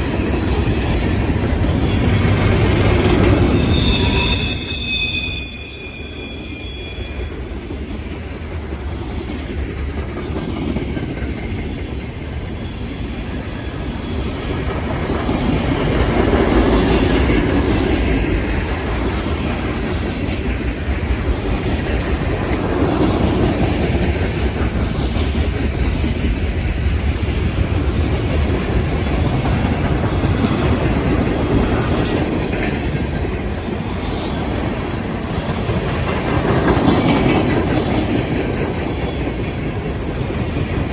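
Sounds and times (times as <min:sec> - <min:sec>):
clickety-clack over rail joints: 0:00.0 - 0:04.9, 0:06.2 - 0:40.9
freight train wheels rumbling: 0:00.0 - 0:40.9.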